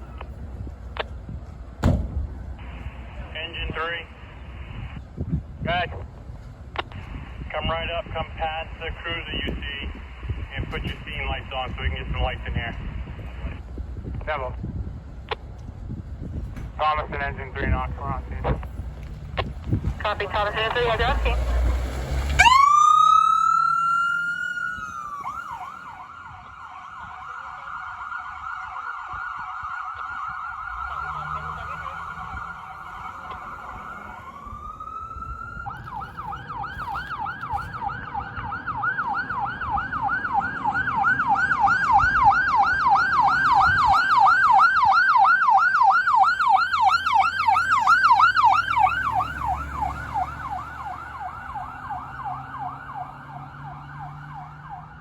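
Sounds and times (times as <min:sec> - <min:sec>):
emergency vehicle siren: 0:00.0 - 0:55.0.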